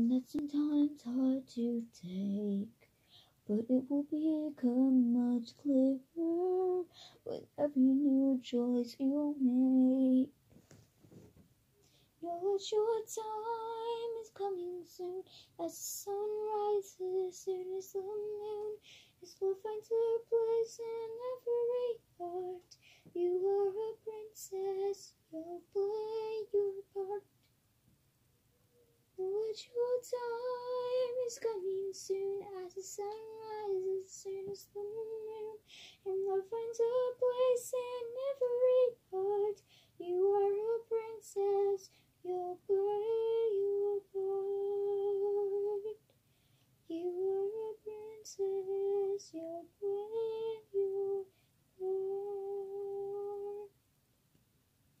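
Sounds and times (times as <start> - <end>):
woman singing unaccompanied: 0.0 - 10.3, 12.2 - 27.3, 29.2 - 46.0, 46.9 - 53.7.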